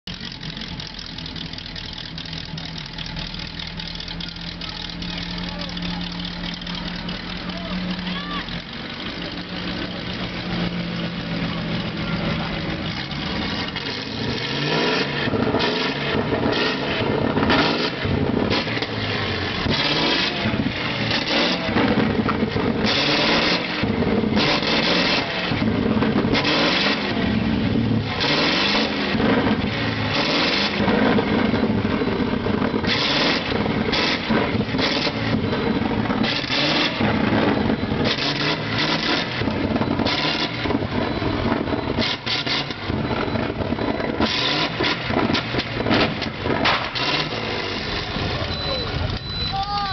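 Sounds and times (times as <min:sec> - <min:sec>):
truck engine idling and revving: 0:00.0 - 0:49.9.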